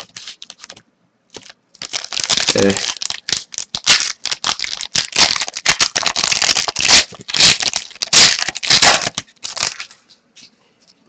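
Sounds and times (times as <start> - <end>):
wrapper crinkling and tearing: 0.0 - 10.1.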